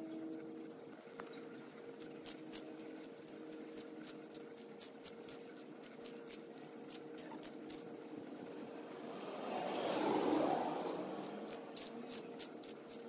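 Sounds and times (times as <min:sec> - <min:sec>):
steady low hum: 0:00.0 - 0:13.0
tortoise crunching lettuce: 0:01.9 - 0:13.0.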